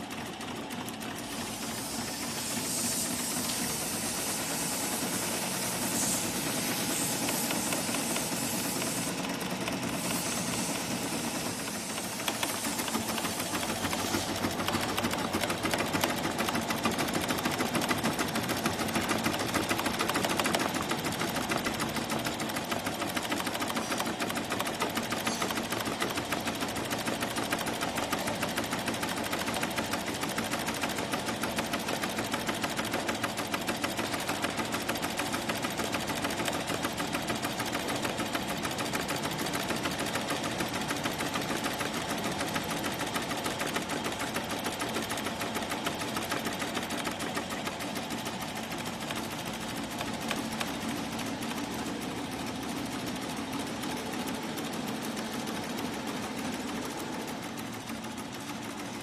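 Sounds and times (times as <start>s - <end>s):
embroidery machine needle clatter: 3.5s - 59.0s.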